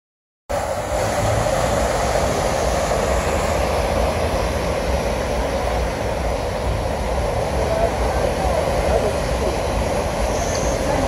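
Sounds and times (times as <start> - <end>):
low vehicle rumble: 0.5 - 11.0
water splashing from wheels: 0.5 - 11.0.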